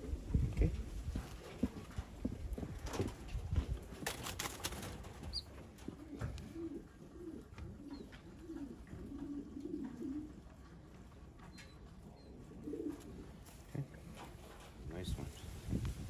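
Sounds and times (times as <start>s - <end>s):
pigeons cooing: 0.0s - 14.8s.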